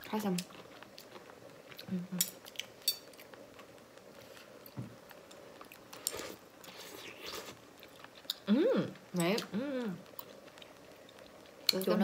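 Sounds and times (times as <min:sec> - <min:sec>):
chewing: 0:00.2 - 0:08.5, 0:09.2 - 0:11.8.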